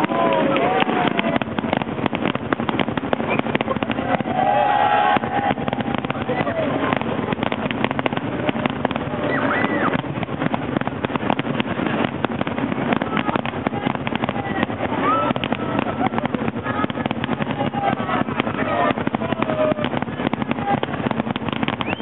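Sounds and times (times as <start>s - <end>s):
fireworks popping and crackling: 0.0s - 22.0s
fireworks whistling: 0.0s - 22.0s.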